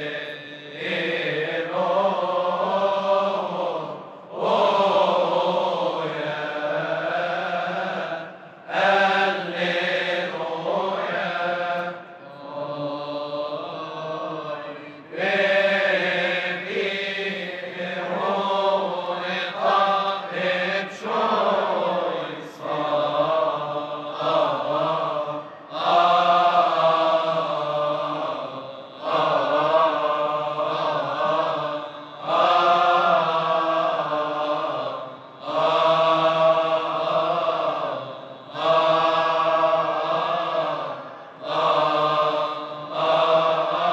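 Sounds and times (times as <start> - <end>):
choir chanting: 0.0 - 43.9.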